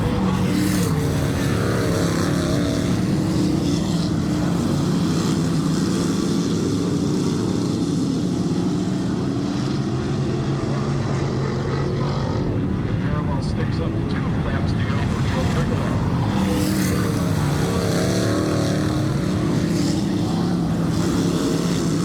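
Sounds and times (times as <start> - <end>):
race cars engine drone: 0.0 - 22.0.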